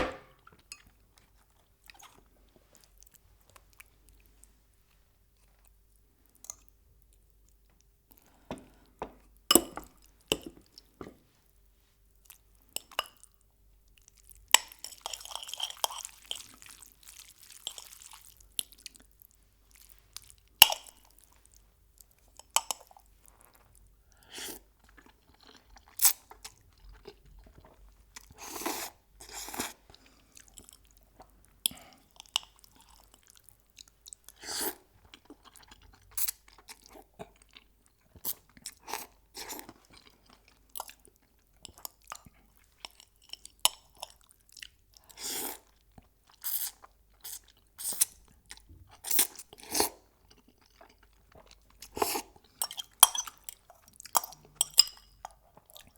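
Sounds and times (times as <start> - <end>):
chewing with crispy crunches: 0.5 - 8.9, 12.2 - 55.9.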